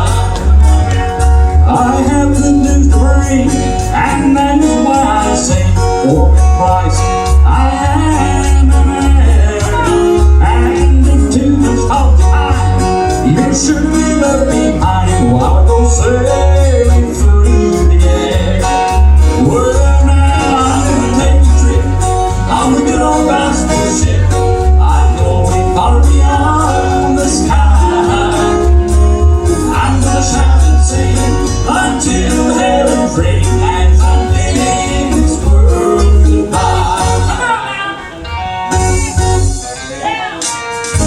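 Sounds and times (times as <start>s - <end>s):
live bluegrass gospel band: 0.0s - 41.0s.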